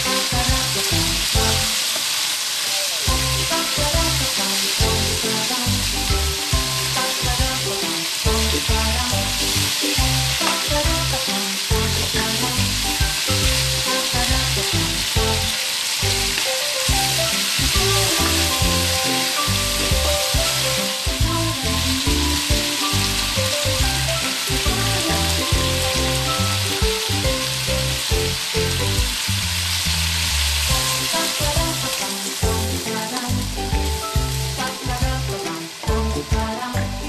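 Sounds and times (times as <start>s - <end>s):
background music: 0.0s - 2.2s, 3.1s - 29.9s, 30.6s - 37.0s
food sizzling in a wok: 0.0s - 37.0s.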